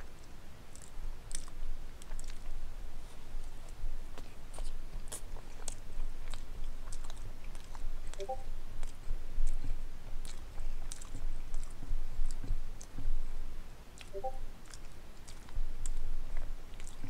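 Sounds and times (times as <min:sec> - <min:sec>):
man chewing food: 0:00.0 - 0:17.0.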